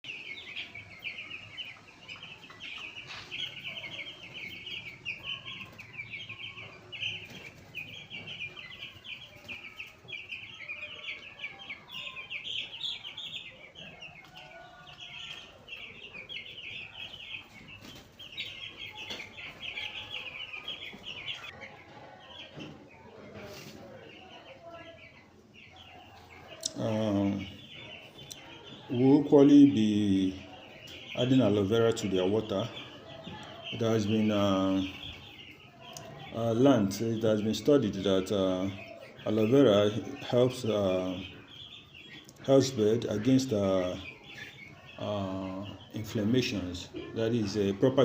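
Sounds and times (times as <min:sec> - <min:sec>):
chickens chirping: 0:00.0 - 0:48.0
chickens clucking: 0:00.0 - 0:48.0.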